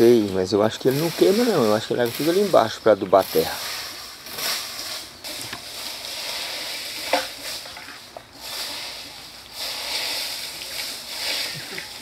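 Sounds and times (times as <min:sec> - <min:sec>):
rake scraping through dry leaves: 0:00.0 - 0:12.0.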